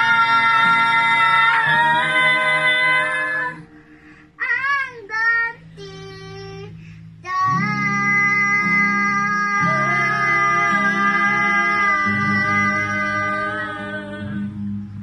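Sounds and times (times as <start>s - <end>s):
woman and girls singing a hymn: 0.0s - 14.8s.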